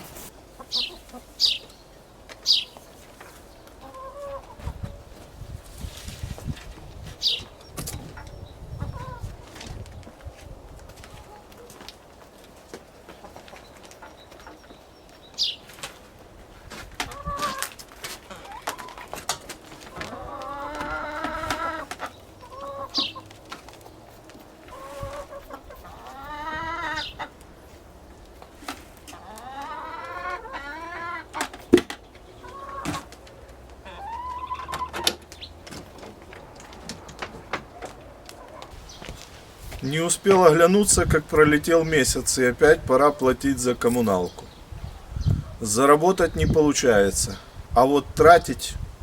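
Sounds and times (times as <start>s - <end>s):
chickens clucking: 0.0s - 49.0s.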